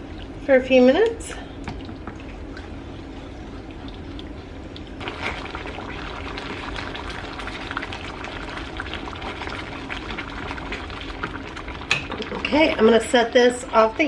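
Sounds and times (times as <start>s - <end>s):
cream sauce bubbling in a pan: 1.6s - 14.0s.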